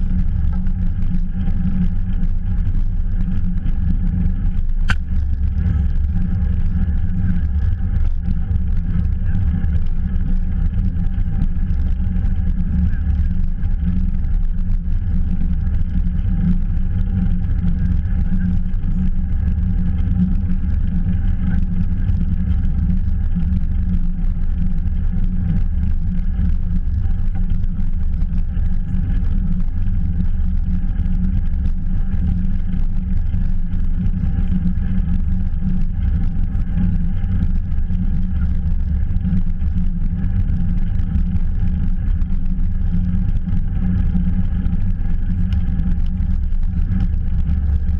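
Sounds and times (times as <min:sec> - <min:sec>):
faint hums: 0:00.0 - 0:47.9.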